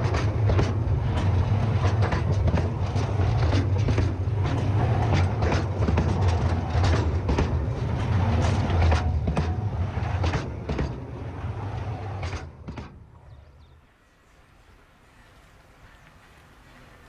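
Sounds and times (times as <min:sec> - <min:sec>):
wagon wheels rumbling on rails: 0:00.0 - 0:13.9, 0:14.6 - 0:17.0.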